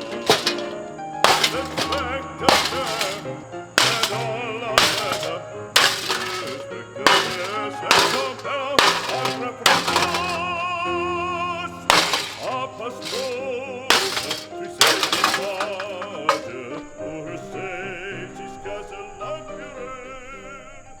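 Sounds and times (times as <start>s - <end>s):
plastic fan being smashed: 0.0s - 17.0s.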